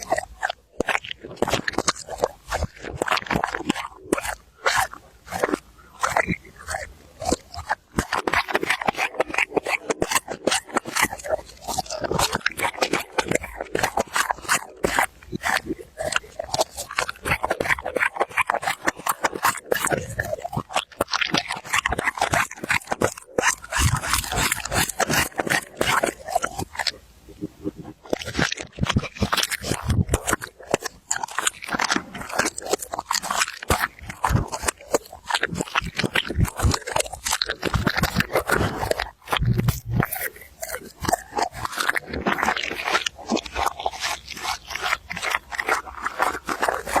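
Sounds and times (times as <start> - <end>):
dog chewing and crunching: 0.0 - 47.0.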